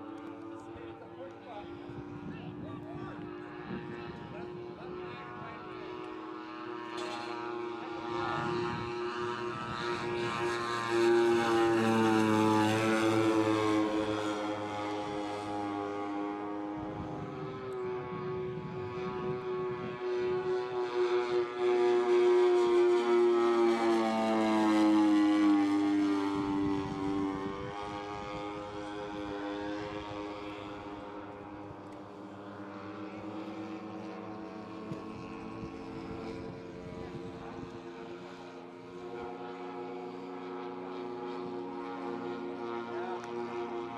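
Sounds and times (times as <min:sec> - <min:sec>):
model plane engines droning: 0:00.0 - 0:43.9.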